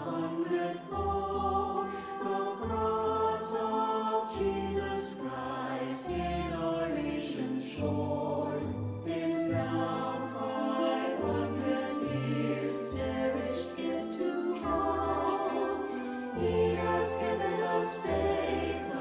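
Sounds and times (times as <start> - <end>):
choir singing: 0.0 - 19.0
instrumental accompaniment: 0.0 - 19.0.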